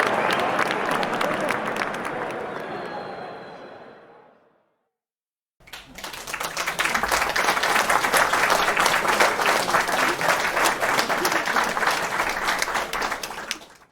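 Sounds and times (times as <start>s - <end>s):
audience applause: 0.0s - 4.3s, 5.6s - 13.9s.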